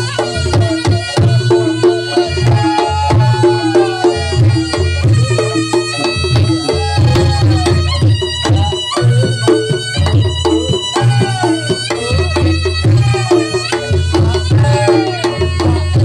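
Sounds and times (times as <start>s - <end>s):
hand drum strokes: 0.0s - 16.0s
shawm melody: 0.0s - 16.0s.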